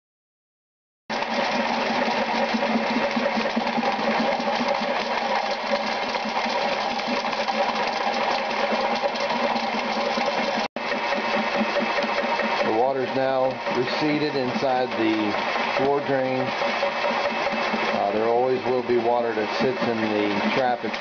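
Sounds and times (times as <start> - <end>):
drain cleaning machine whirring: 1.1 - 21.0.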